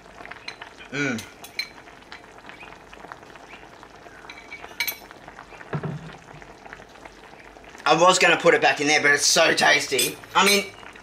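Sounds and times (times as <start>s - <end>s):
soup simmering: 0.0s - 11.0s.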